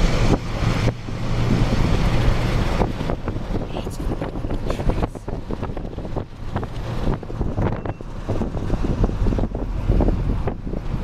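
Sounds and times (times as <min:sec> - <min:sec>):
car road rumble: 0:00.0 - 0:11.0
wind buffeting microphone: 0:00.0 - 0:11.0.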